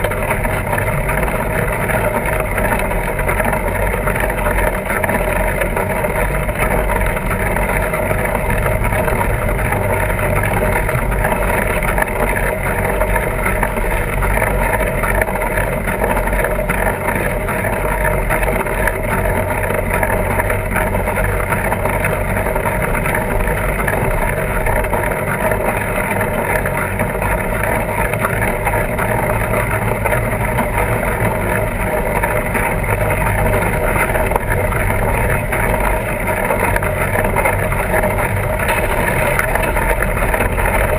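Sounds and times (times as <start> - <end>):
wide tires rolling rumble: 0.0 - 40.9.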